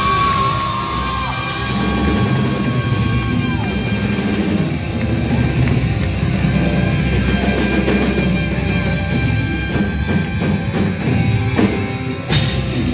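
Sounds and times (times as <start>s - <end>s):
live rock band playing: 0.0s - 12.9s.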